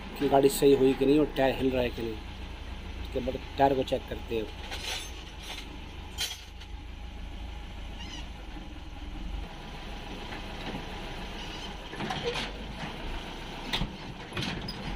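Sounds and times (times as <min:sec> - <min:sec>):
truck engine idling: 0:00.0 - 0:14.9.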